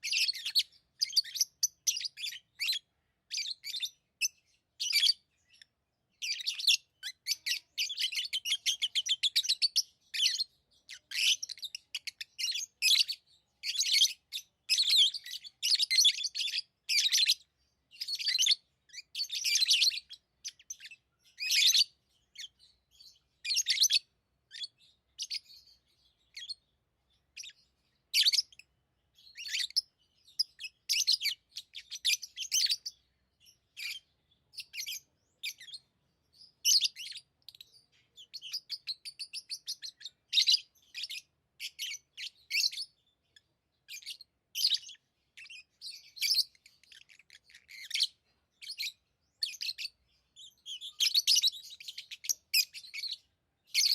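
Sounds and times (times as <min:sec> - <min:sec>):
lovebirds chirping: 0:00.0 - 0:53.9.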